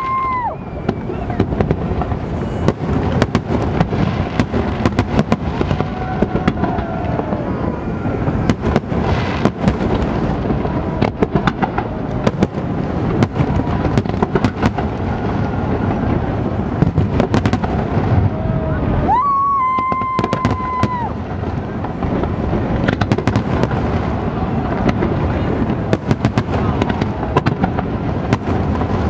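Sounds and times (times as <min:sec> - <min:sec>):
low rumble of explosions: 0:00.0 - 0:29.0.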